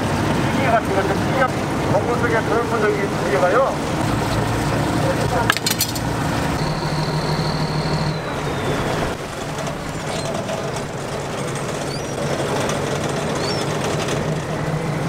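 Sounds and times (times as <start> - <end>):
boat engine running: 0.0 - 15.0
rushing noise: 0.0 - 15.0.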